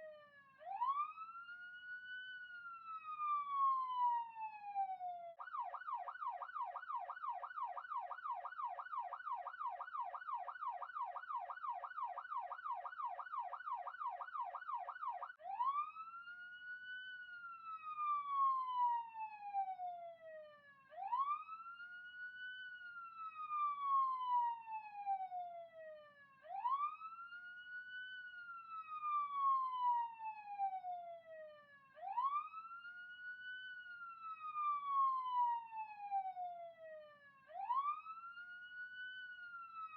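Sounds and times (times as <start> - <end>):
electronic police siren: 0.0 - 39.9.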